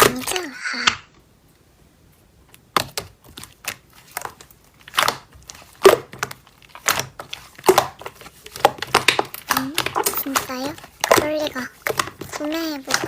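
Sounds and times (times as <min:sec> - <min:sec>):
slime squished by hand: 0:00.0 - 0:01.2, 0:02.5 - 0:13.0.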